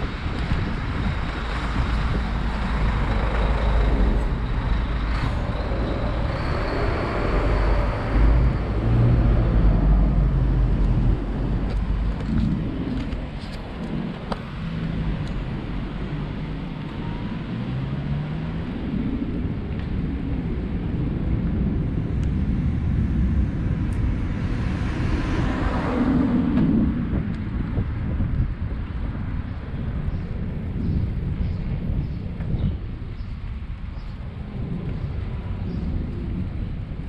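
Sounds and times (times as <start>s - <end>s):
vehicles passing: 0.0s - 37.0s
wind rumble on microphone: 0.0s - 37.0s.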